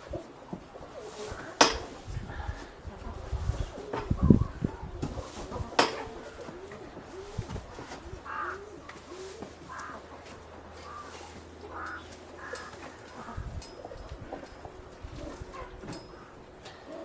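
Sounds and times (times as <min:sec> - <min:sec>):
harsh pigeon calls: 0:00.0 - 0:17.0
pigeons cooing: 0:00.0 - 0:17.0.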